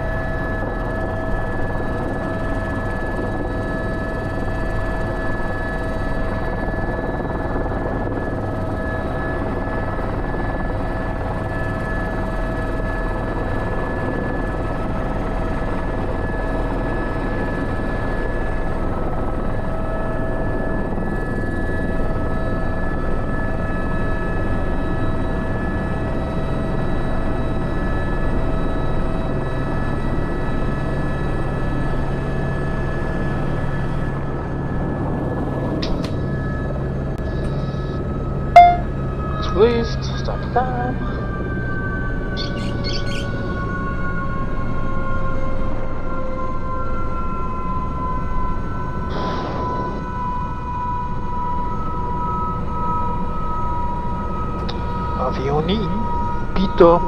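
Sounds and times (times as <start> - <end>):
helicopter rotor and engine: 0.0 - 57.0
steady engine whine: 0.0 - 57.0.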